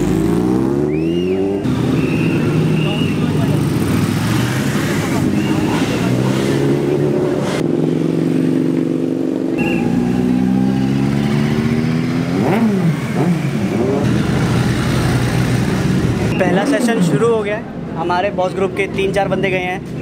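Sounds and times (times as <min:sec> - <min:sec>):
motorcycle engine revving: 0:00.0 - 0:17.3
motorcycle engines droning: 0:00.0 - 0:20.0.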